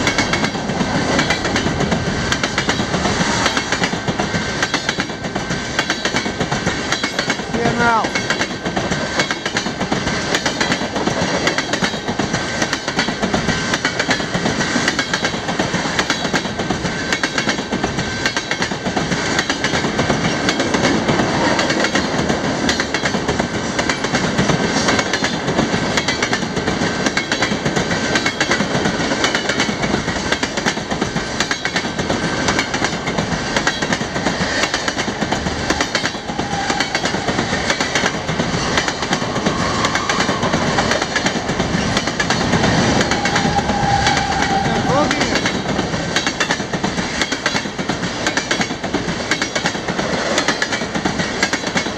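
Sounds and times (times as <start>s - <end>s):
train wheels clacking over rail joints: 0.0s - 51.9s.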